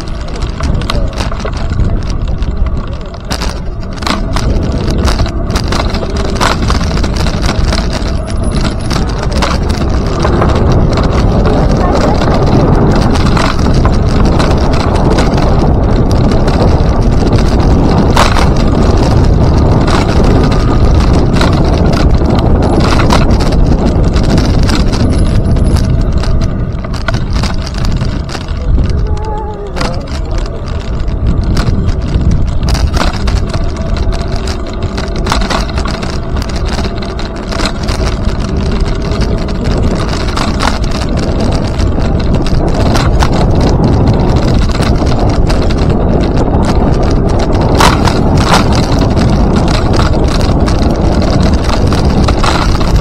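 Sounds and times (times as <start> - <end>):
clicks and rattles: 0.0 - 53.0
rolling road noise: 0.0 - 53.0
wind rumble on microphone: 0.0 - 53.0.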